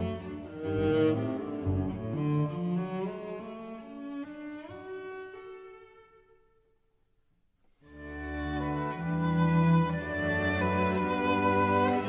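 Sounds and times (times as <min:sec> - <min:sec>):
bowed string music: 0:00.0 - 0:06.5, 0:07.9 - 0:12.0.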